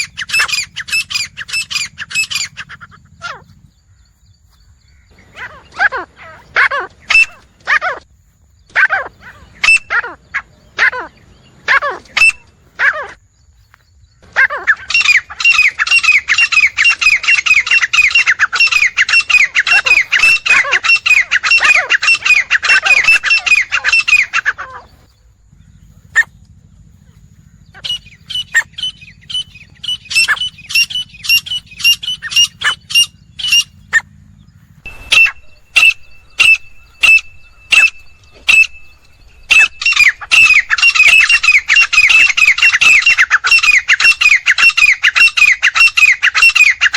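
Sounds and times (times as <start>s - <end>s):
low hum: 0.0s - 46.3s
birds calling harsh notes: 0.0s - 46.9s.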